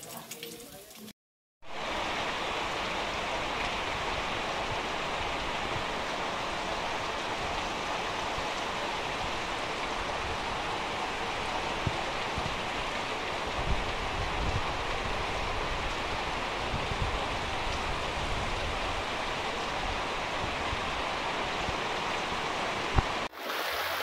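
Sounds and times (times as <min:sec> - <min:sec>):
heavy rain pouring: 0:01.7 - 0:24.0.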